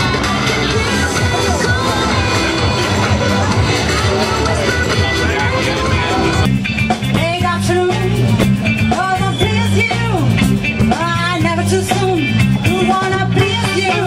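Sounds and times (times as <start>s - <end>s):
woman singing: 0.0s - 5.7s, 7.1s - 8.2s, 8.9s - 10.3s, 10.9s - 14.0s
bass guitar: 0.0s - 14.0s
electric guitars: 0.0s - 14.0s
steady drum beat: 0.0s - 14.0s.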